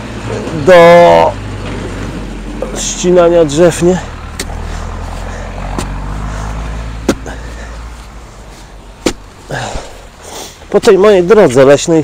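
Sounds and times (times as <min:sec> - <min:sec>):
machinery engine rumble: 0:00.0 - 0:11.8.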